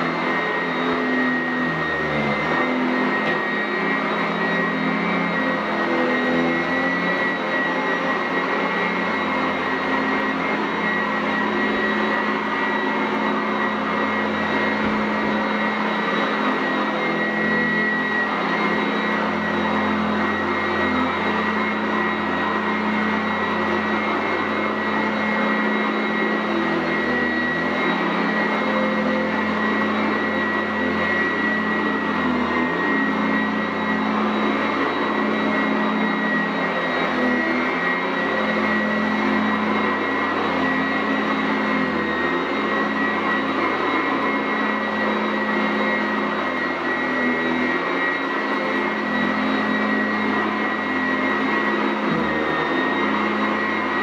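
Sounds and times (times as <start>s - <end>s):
upright vacuum running over carpet: 0.0s - 54.0s.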